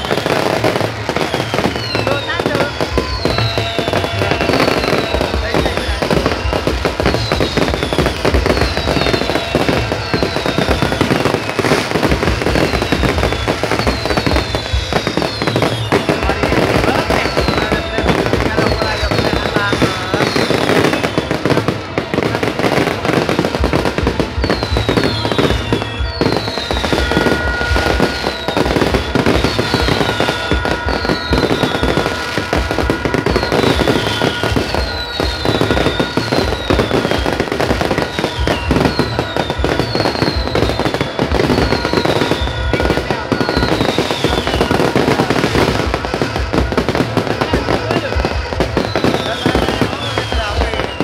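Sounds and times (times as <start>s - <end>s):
falling firework whistles: 0.0s - 51.0s
fireworks bangs and crackling: 0.0s - 51.0s.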